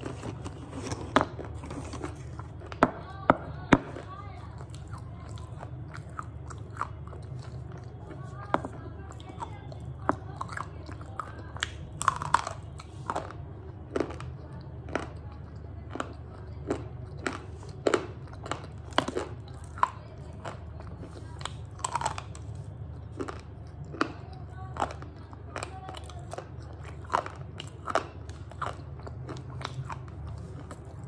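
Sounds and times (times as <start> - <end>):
steady low hum: 0.0 - 31.0
pencils crunching between teeth: 4.4 - 31.0.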